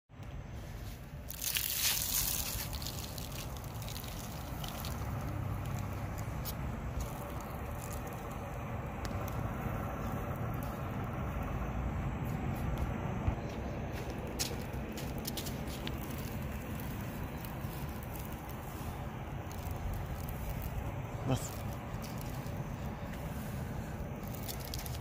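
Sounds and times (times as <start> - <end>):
low rumble: 0.3 - 25.0
grain pouring and pattering: 0.7 - 11.4, 14.0 - 25.0.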